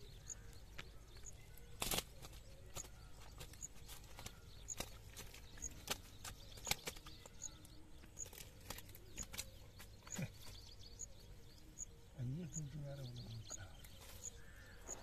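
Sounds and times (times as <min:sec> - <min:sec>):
dry grass crackling: 0:00.0 - 0:12.0, 0:13.7 - 0:15.0.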